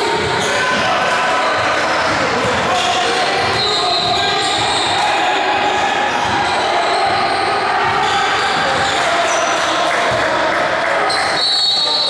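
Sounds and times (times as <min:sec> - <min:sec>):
echoing gym noise: 0:00.0 - 0:12.0.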